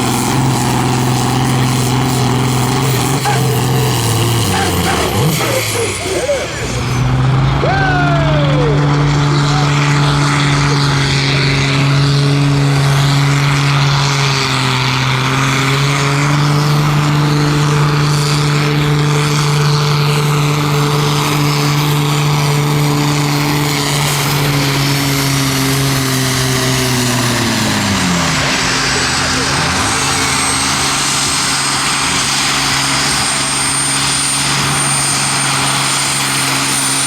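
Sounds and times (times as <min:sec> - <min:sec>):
tractor engine at high revs: 0:00.0 - 0:37.0.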